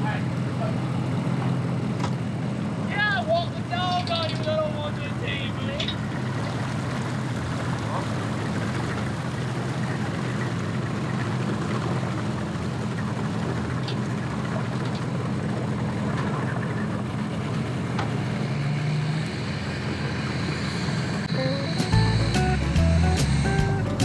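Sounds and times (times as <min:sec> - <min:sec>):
engine droning steadily: 0:00.0 - 0:24.0.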